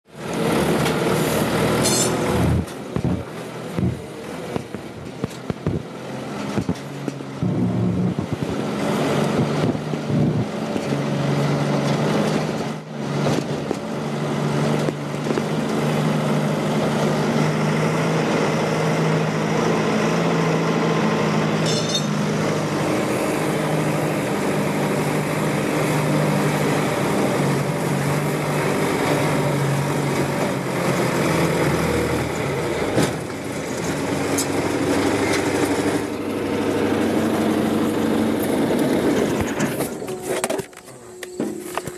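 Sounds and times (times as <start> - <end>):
engine running steadily: 0.1 - 41.9.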